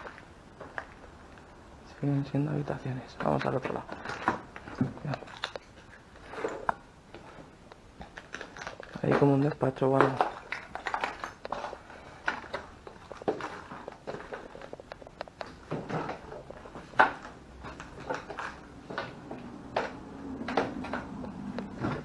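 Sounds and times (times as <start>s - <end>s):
footsteps crunching over rubble: 2.8s - 22.0s.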